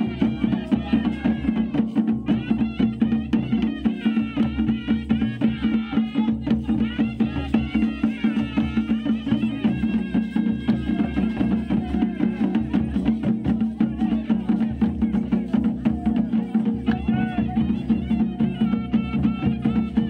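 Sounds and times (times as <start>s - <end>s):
drums beaten in steady rhythm: 0.0s - 20.0s.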